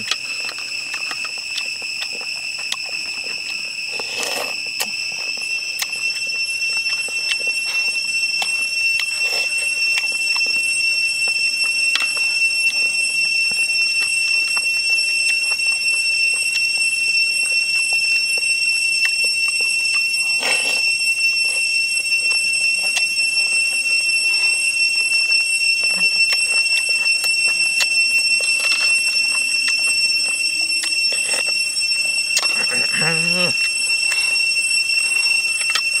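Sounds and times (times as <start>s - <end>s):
high-pitched drone: 0.0s - 36.0s.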